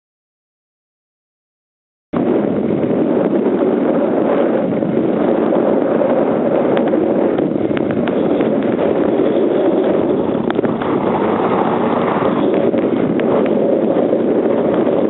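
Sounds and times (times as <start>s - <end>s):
wind buffeting microphone: 2.2s - 15.0s.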